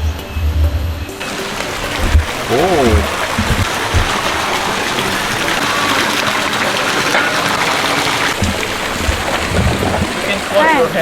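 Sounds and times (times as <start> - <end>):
low thumps: 1.2 - 10.7
falling water hissing: 1.2 - 11.0.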